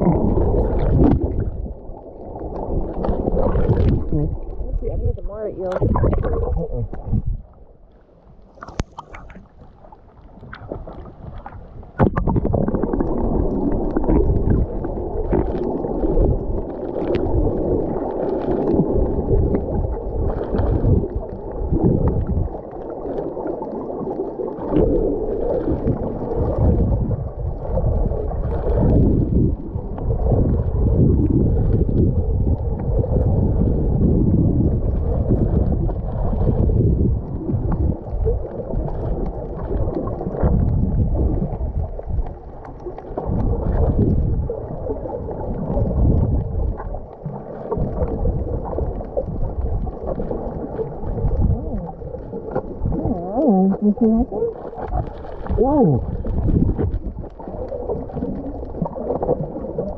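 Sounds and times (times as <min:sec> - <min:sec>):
muffled underwater rushing water: 0:00.0 - 0:59.9
small clicks and bubbles: 0:00.0 - 0:59.9.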